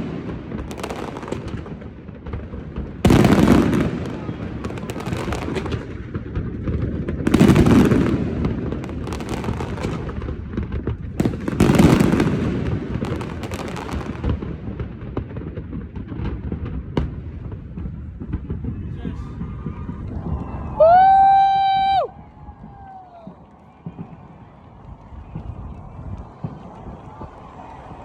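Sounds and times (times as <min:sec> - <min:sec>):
fireworks bangs and crackling: 0:00.0 - 0:28.0
fireworks big booms: 0:00.0 - 0:28.0.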